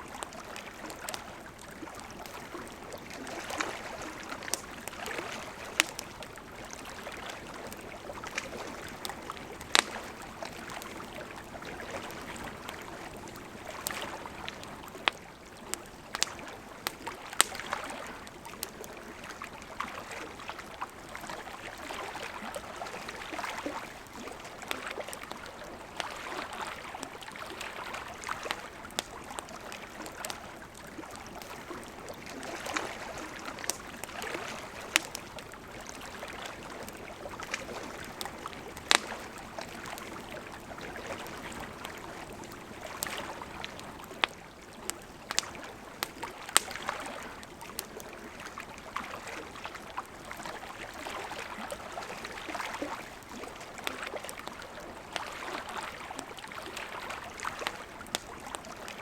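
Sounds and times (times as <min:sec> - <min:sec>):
lake water lapping: 0:00.0 - 0:59.0
campfire crackling and popping: 0:00.1 - 0:59.0.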